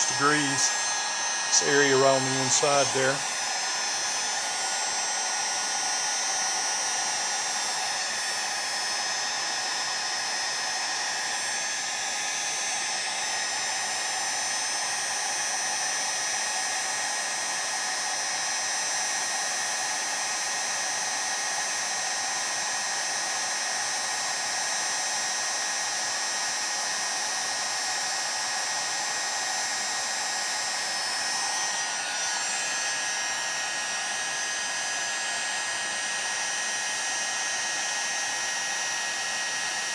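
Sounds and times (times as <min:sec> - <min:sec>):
heat gun blowing air: 0:00.0 - 0:39.9.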